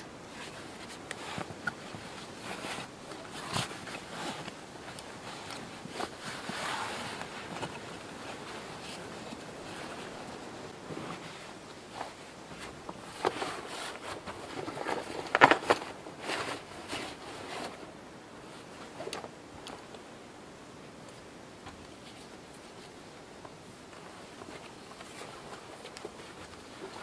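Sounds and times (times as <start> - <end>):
backpack and clothing rustling: 0.0 - 27.0.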